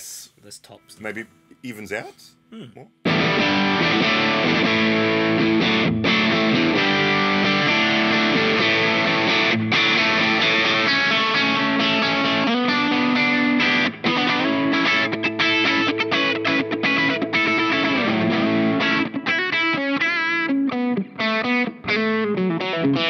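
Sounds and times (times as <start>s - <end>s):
distorted electric guitar chords: 3.0s - 23.0s.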